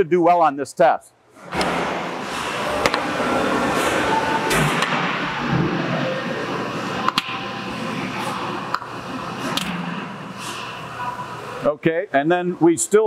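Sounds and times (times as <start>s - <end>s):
factory background noise: 1.4s - 13.0s.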